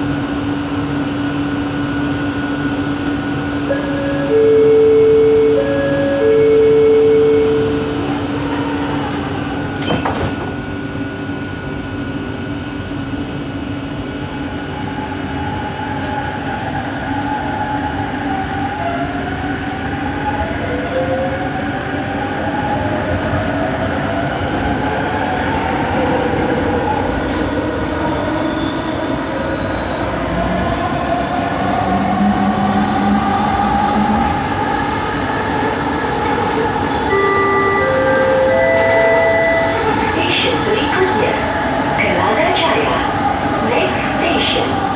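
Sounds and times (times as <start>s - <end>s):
metro train running noise: 0.0s - 44.9s.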